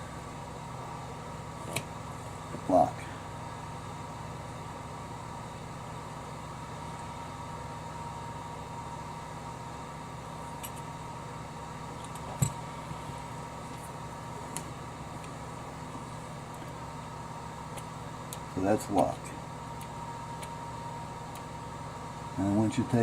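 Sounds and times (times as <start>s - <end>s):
low hum with high tone: 0.0s - 23.0s.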